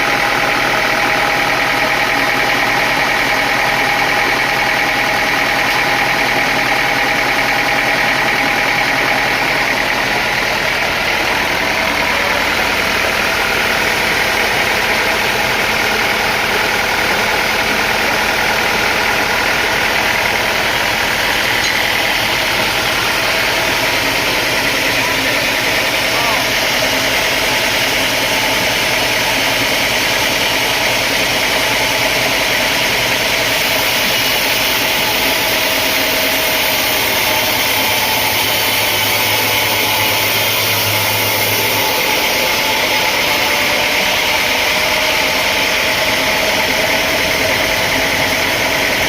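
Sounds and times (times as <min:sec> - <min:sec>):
sawmill machinery drone: 0:00.0 - 0:49.0
steady machine whining tones: 0:00.0 - 0:49.0.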